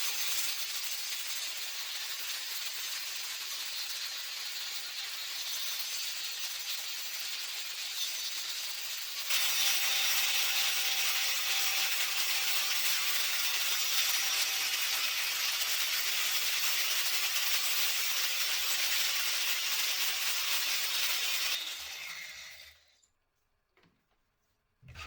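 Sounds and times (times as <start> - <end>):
grinder grinding steel: 0.4 - 22.9.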